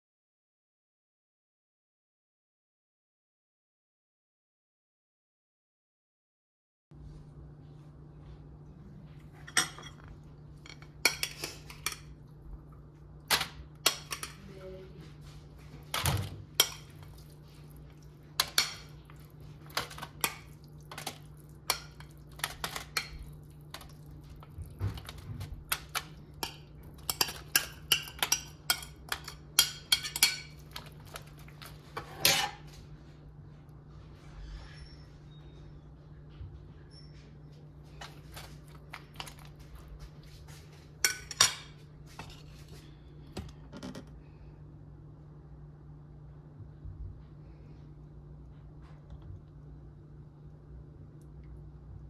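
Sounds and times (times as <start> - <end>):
low steady hum: 7.0 - 52.0.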